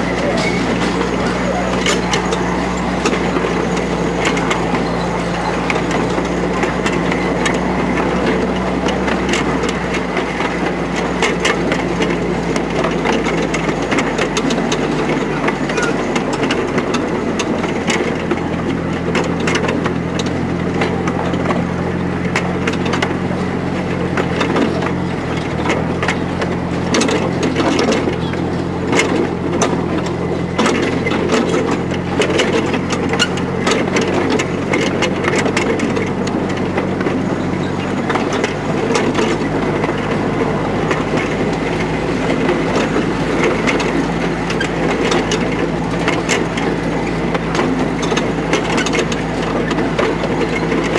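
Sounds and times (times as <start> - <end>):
constant low hum: 0.0 - 50.9
running gear clicks and knocks: 0.0 - 50.9
train wheels and carriages rattling: 0.0 - 50.9.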